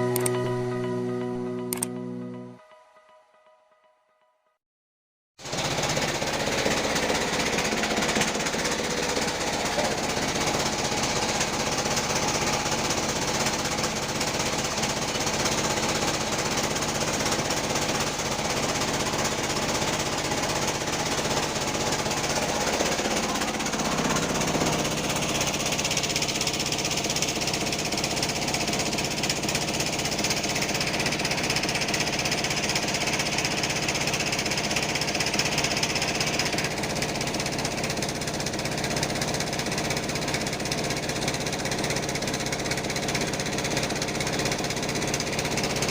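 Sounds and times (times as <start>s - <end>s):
band saw cutting log: 5.4s - 45.9s.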